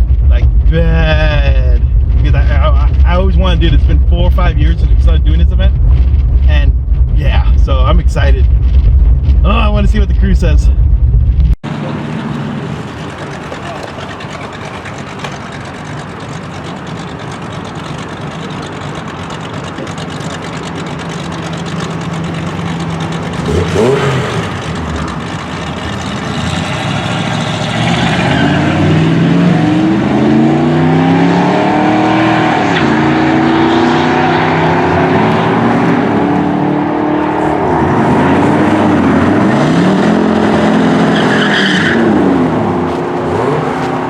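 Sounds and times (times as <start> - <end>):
car engine accelerating hard: 0.0 - 44.0.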